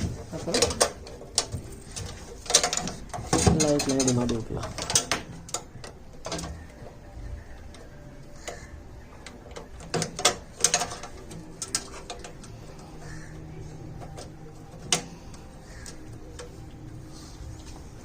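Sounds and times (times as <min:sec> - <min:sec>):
clicks and knocks of handled parts: 0:00.0 - 0:07.0, 0:07.6 - 0:18.0.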